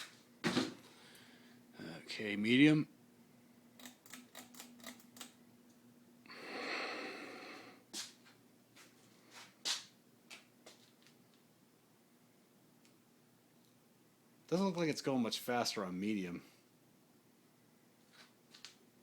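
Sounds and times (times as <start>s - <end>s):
ceiling fan hum: 0.0s - 19.0s.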